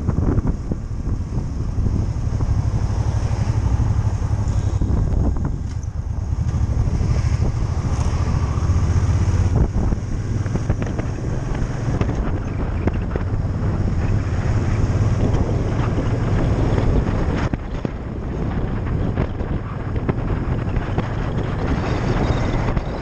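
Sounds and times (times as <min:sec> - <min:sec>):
motorcycle engine rumble: 0:00.0 - 0:23.0
wind buffeting microphone: 0:00.0 - 0:23.0.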